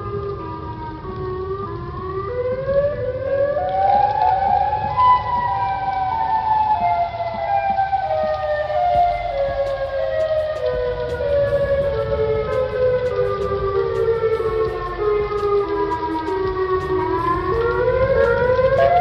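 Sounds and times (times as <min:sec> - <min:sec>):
warning sirens wailing: 0:00.0 - 0:19.0.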